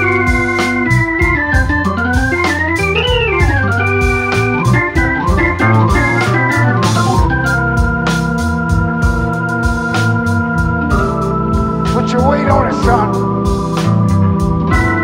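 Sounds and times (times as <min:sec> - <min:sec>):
blues organ solo: 0:00.0 - 0:15.0
steady drum beat: 0:00.0 - 0:15.0.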